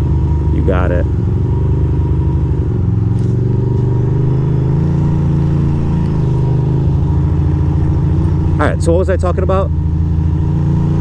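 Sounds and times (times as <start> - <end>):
motorcycle engine pulling away: 0.0 - 11.0.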